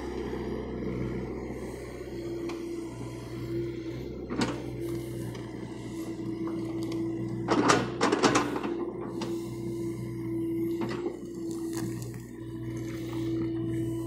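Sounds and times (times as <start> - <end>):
excavator diesel engine whining: 0.0 - 14.0.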